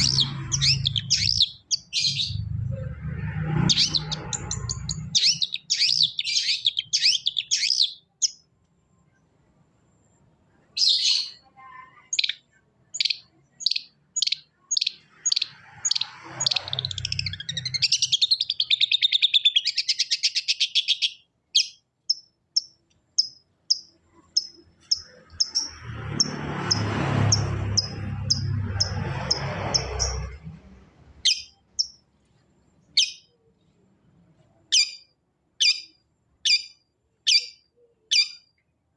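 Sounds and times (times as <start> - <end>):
bird chirping song: 0.0 - 38.8.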